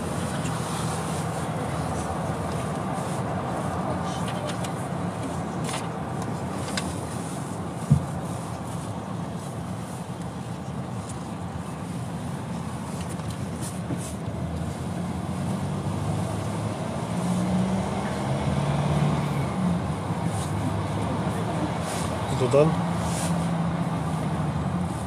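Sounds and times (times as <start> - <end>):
car engine and tyre hum: 0.0 - 25.0.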